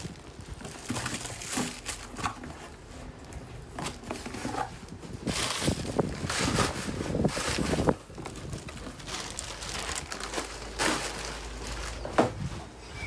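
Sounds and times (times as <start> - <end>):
plastic wrapping crinkling: 0.0 - 12.6.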